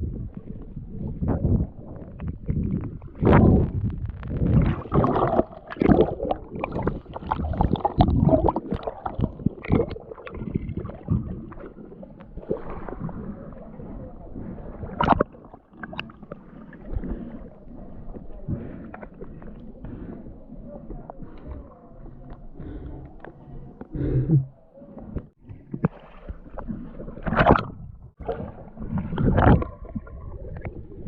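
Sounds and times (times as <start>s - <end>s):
water gurgling: 0.0s - 31.0s
water sloshing and splashing: 0.0s - 31.0s.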